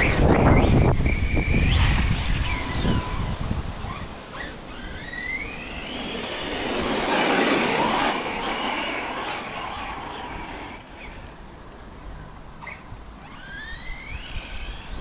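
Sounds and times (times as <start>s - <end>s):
rc car electric motor whining: 0.0s - 11.3s, 12.6s - 15.0s
wind buffeting microphone: 0.0s - 15.0s.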